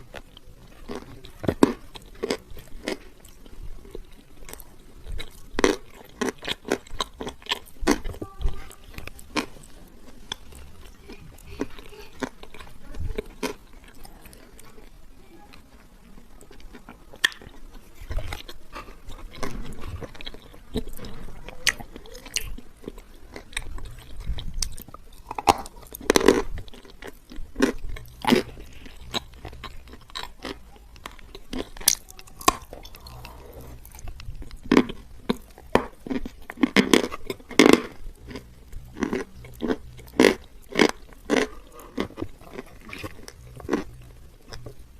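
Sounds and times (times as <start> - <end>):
crunchy biting and chewing: 0.0 - 44.9.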